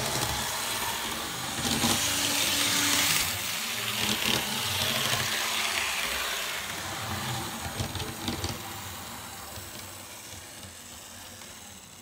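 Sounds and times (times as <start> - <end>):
model train motor whirring: 0.0 - 12.0.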